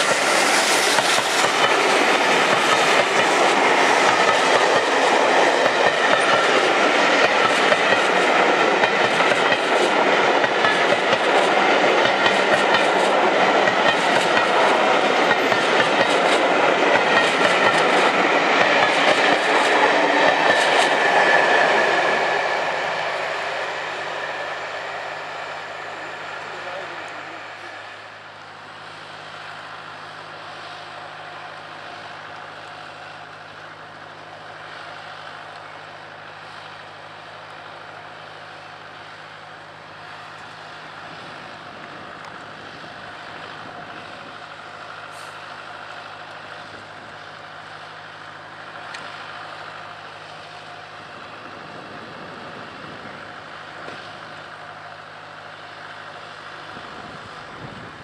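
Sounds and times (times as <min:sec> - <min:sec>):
train coaches rolling on track: 0:00.0 - 0:58.0.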